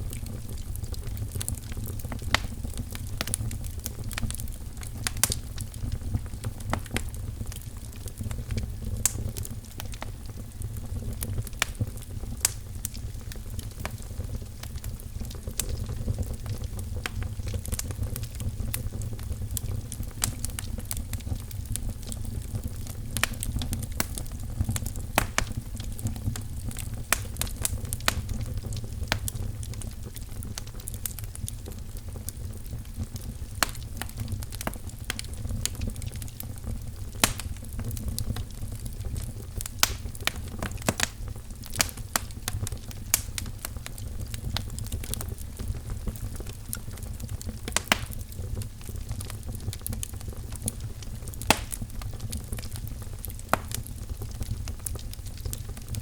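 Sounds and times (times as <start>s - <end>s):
firewood crackling and popping: 0.0s - 56.0s.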